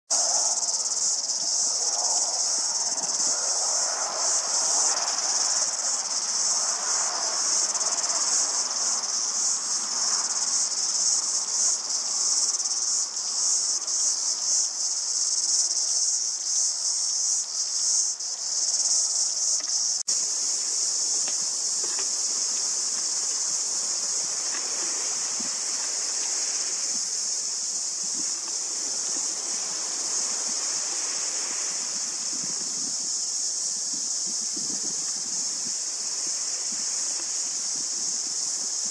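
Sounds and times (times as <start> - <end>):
insects shrilling: 0.1 - 38.9.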